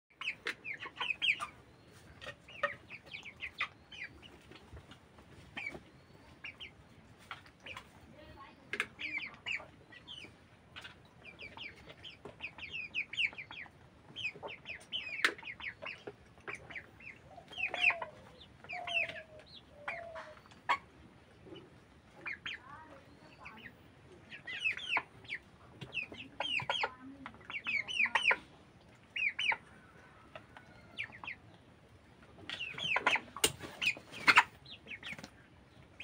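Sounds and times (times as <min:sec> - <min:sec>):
chickens peeping and clucking: 0:00.1 - 0:36.0
drawn-out chicken calls: 0:00.1 - 0:36.0.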